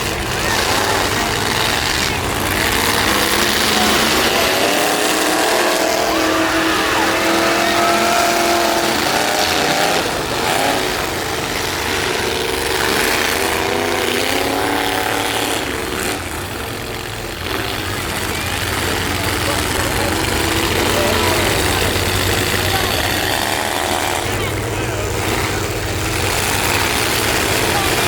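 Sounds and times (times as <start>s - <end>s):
truck engines revving hard: 0.0s - 28.0s.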